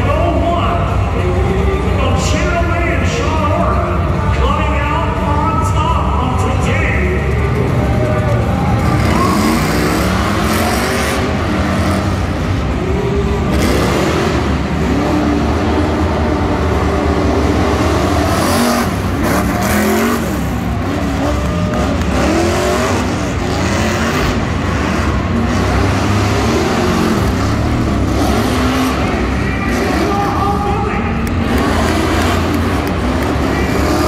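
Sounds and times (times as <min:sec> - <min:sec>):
pickup truck engines revving: 0:00.0 - 0:34.0.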